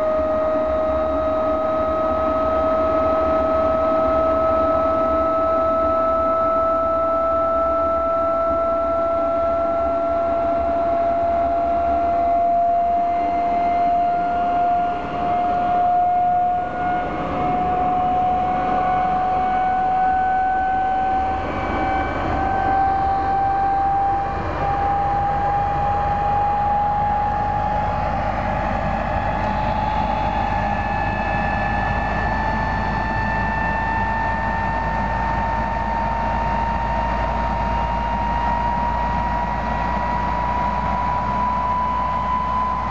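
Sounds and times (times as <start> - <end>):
jet engine whine rising: 0.0 - 42.9
deep rumble: 8.0 - 42.9.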